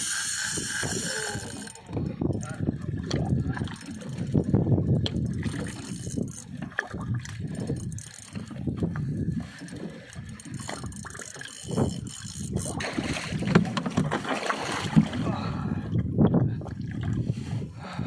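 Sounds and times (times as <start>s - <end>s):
water sloshing against boat hull: 0.8s - 17.3s.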